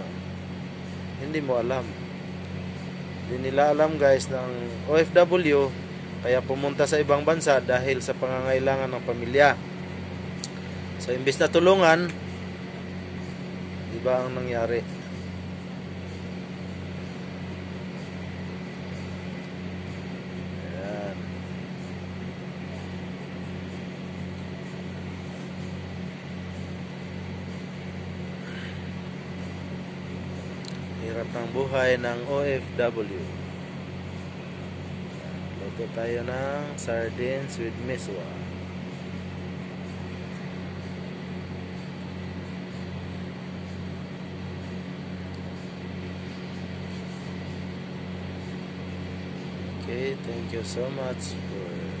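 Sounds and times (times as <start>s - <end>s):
motor humming: 0.0s - 52.0s.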